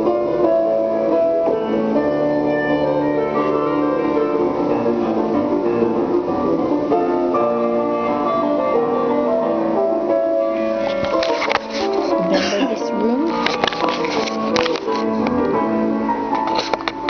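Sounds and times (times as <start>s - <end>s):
instrumental music with held chords: 0.0s - 17.0s.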